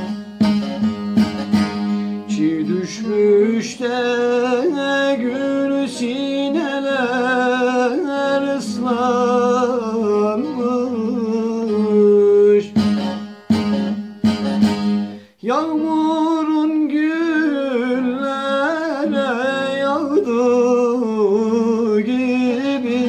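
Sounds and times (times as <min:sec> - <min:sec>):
lute strums: 0:00.0 - 0:23.0
man singing folk song: 0:00.0 - 0:23.0.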